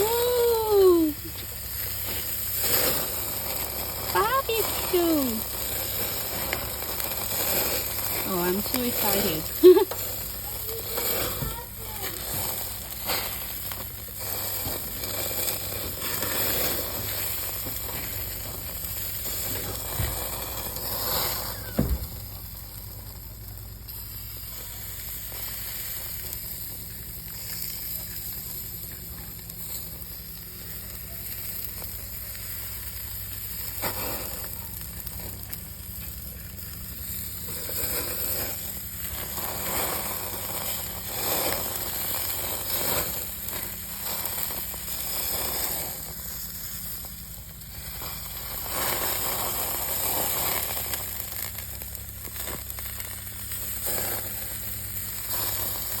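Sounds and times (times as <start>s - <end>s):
meat sizzling on a grill: 0.0s - 56.0s.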